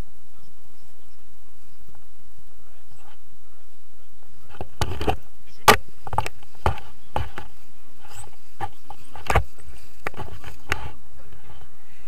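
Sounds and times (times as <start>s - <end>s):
running footsteps on grass: 0.0s - 12.0s.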